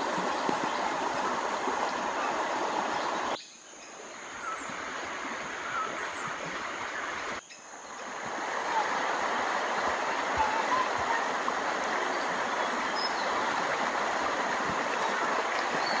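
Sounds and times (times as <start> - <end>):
water rushing: 0.0 - 3.4, 4.2 - 16.0.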